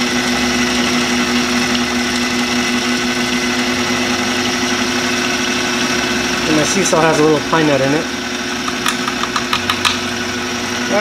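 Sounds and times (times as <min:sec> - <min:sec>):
food processor chopping: 0:00.0 - 0:06.6, 0:08.4 - 0:10.9.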